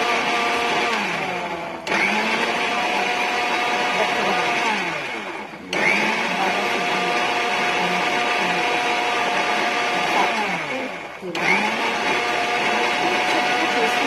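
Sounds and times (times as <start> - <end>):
mixer grinder motor running: 0.0 - 14.0.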